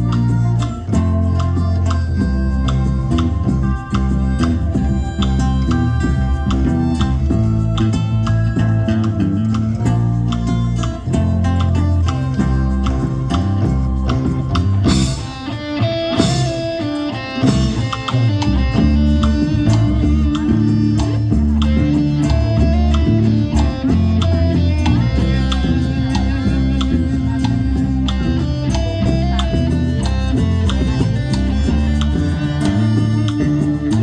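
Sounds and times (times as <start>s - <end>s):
instrumental ensemble playing: 0.0s - 34.0s
steady percussive beat: 0.0s - 34.0s.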